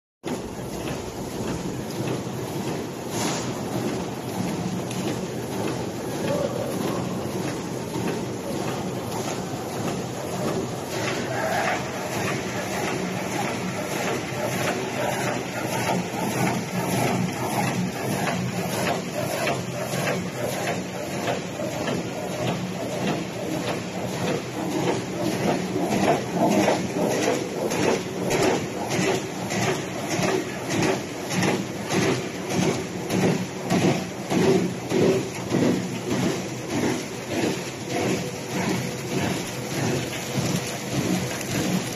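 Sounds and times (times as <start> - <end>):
machine clattering: 0.3 - 41.9.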